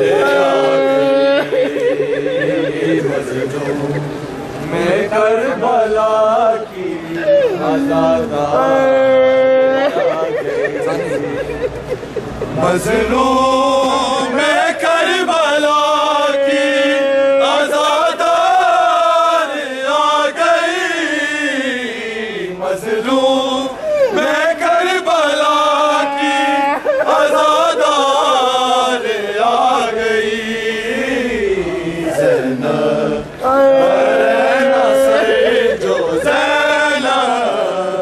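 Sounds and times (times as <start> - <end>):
person chanting a lament: 0.0 - 11.4, 12.5 - 38.0.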